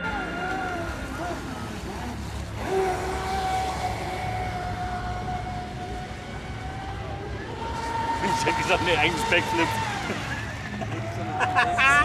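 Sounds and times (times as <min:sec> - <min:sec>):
motor whining: 0:00.0 - 0:12.0.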